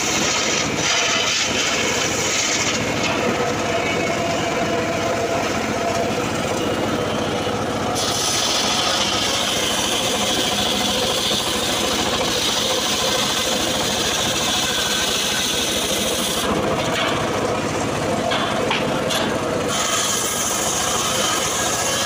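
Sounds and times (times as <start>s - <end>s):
circular saw ripping a log: 0.0s - 6.2s, 7.9s - 17.8s, 18.9s - 22.0s
saw motor running: 0.0s - 22.0s.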